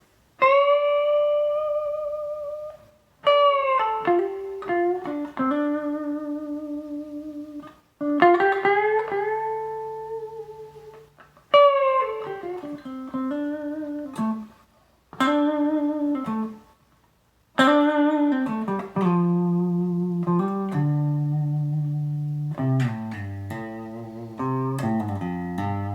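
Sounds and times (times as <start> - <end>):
electric guitar melody with bends: 0.4 - 16.8, 17.6 - 25.9.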